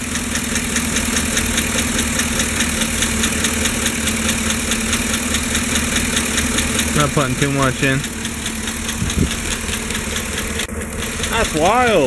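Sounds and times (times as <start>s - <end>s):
engine idling: 0.0s - 12.0s
fast even engine ticking: 0.0s - 12.0s.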